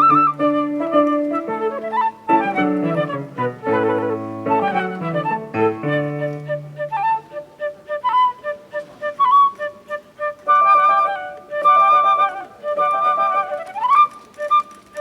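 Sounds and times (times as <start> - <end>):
flutes playing classical piece: 0.0 - 15.0.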